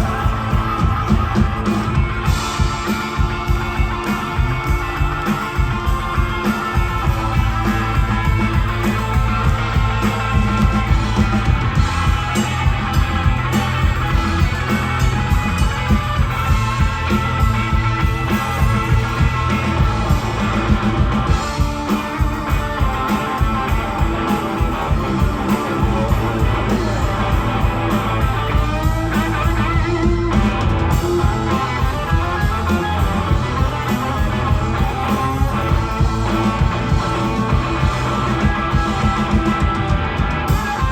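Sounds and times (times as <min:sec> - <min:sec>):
instrumental rock band playing: 0:00.0 - 0:40.9.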